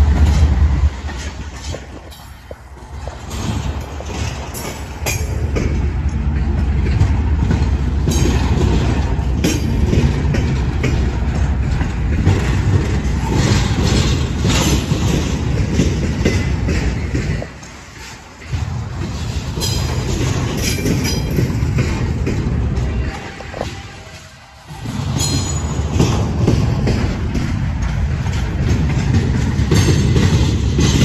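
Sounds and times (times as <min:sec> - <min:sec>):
freight train wheels rumbling: 0:00.0 - 0:31.0
rail clacks: 0:00.0 - 0:31.0.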